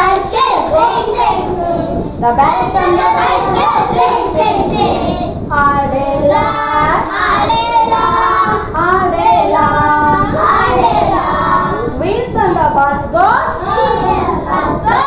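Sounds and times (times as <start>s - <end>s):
children singing together: 0.0s - 12.6s, 13.4s - 15.0s.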